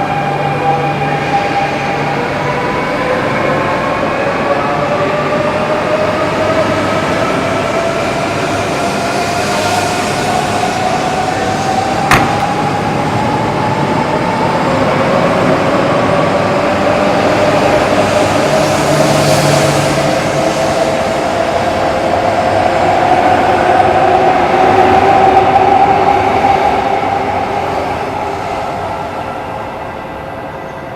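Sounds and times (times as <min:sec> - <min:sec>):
train running and rail noise: 0:00.0 - 0:30.9.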